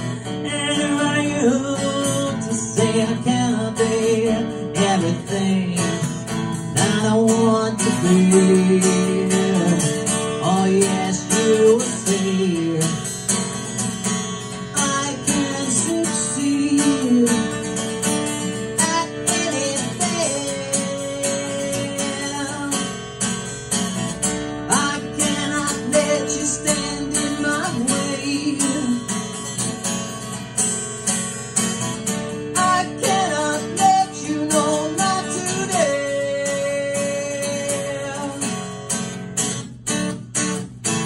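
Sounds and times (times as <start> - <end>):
guitar strummed with melody: 0.0 - 41.0.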